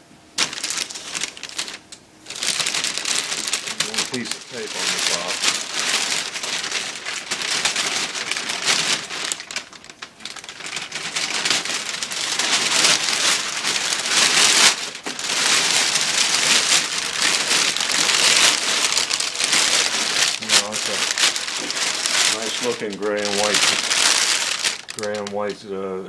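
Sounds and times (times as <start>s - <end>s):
plastic bag crinkling: 0.4s - 25.7s.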